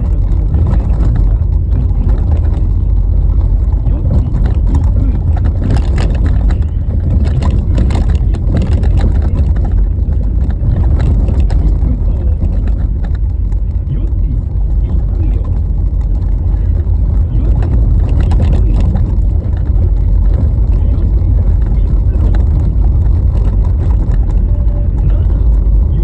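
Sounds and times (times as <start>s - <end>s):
car tyres rumbling on snowy road: 0.0s - 26.0s
clicks and rattles: 0.0s - 26.0s.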